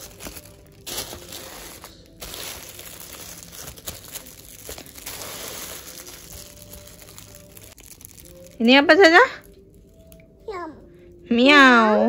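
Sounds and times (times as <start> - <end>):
plastic wrappers crinkling: 0.0 - 10.2.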